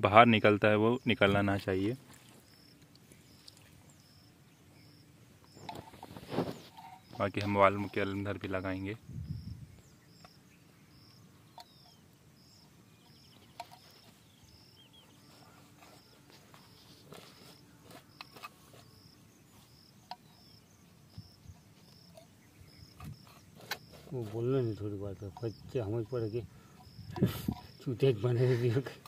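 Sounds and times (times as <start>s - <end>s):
faint insect chirping: 0.0s - 29.0s.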